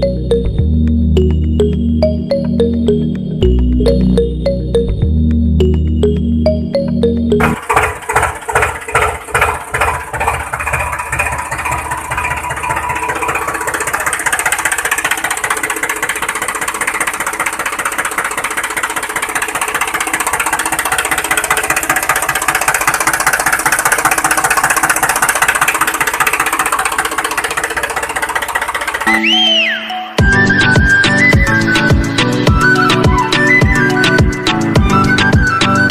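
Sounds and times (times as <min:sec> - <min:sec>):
tractor engine chugging: 0:00.0 - 0:35.9.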